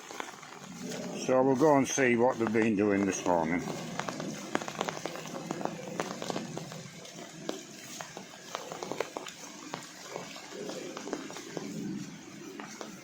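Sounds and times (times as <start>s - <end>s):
light rain falling: 0.0s - 13.0s
raindrops ticking close by: 0.0s - 13.0s.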